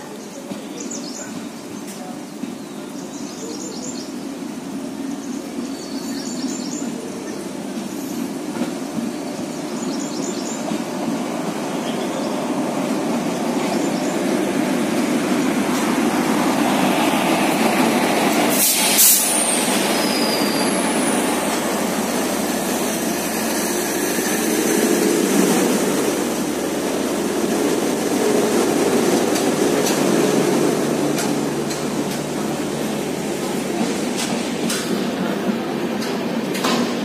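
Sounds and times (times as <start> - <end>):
train rumbling over rails: 0.0 - 37.0.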